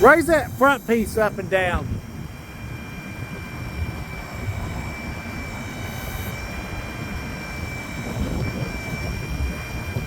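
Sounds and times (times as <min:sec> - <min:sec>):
high-pitched hydraulic whine: 0:00.0 - 0:10.0.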